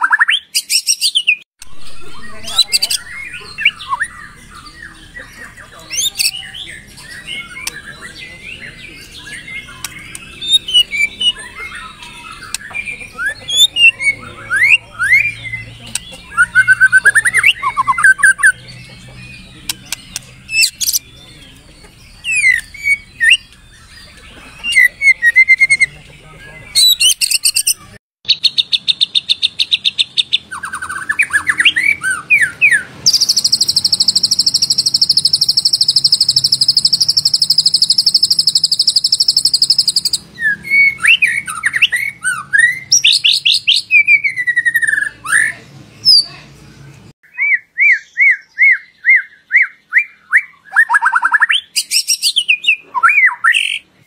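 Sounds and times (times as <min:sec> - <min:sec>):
songbird whistling song: 0:00.0 - 0:46.4, 0:47.2 - 0:54.0.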